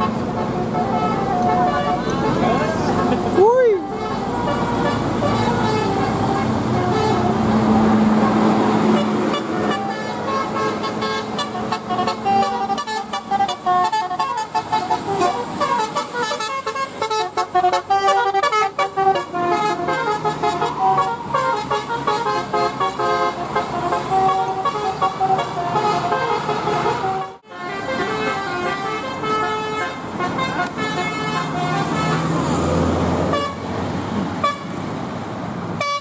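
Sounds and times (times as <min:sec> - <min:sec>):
multi-tone bus air horn melody: 0:00.0 - 0:33.7, 0:34.4 - 0:34.8, 0:35.8 - 0:36.0.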